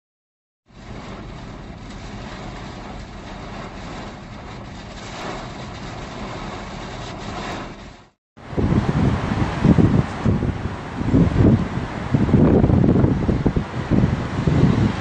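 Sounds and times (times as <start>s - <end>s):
low rumble: 0.7s - 15.0s
vehicle road noise: 0.7s - 15.0s
storm wind rushing: 2.2s - 15.0s.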